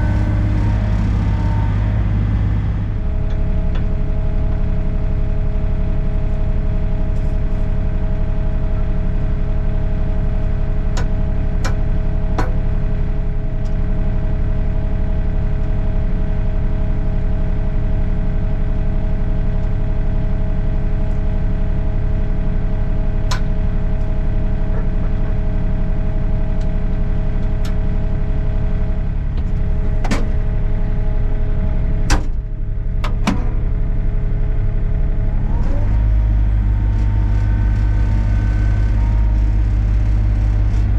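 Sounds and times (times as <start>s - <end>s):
excavator diesel engine whine: 0.0s - 40.9s.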